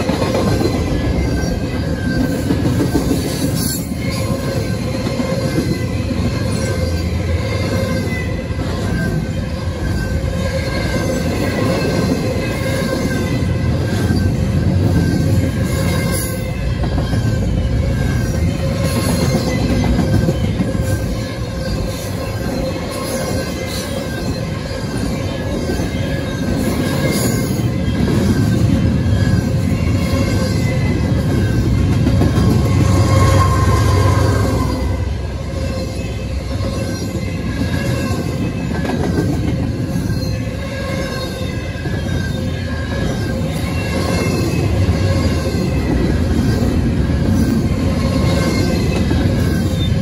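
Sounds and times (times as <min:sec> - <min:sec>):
steel wheels clattering on rail: 0:00.0 - 0:50.0.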